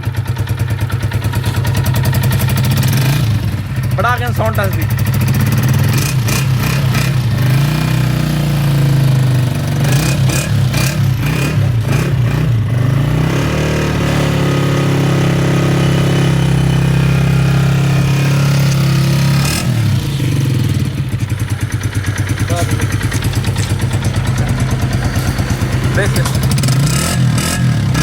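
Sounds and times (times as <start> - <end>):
motorcycle engine revving and idling: 0.0 - 28.0.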